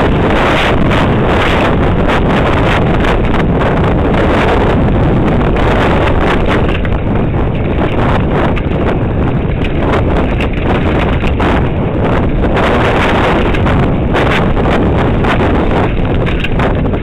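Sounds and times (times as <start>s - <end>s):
bike rattling on rough trail: 0.0s - 17.0s
wind buffeting microphone: 0.0s - 17.0s.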